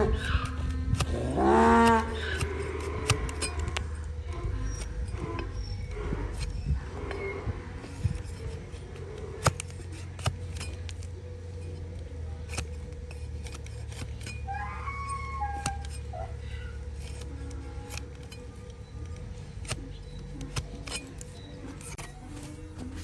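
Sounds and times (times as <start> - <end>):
hoof trimming tools clicking: 0.0 - 23.0.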